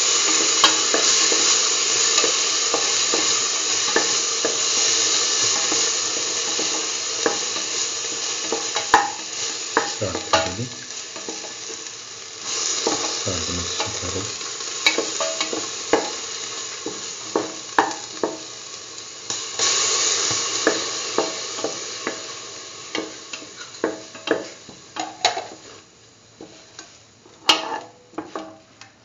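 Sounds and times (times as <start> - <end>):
paste sizzling in hot oil: 0.0 - 28.6.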